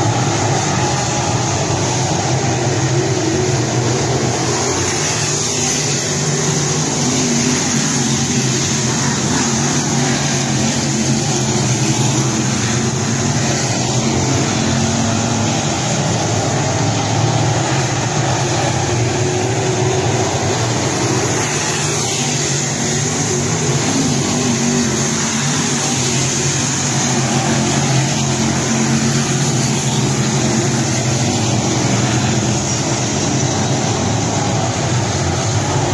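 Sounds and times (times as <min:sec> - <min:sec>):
race car engines roaring: 0:00.0 - 0:35.9.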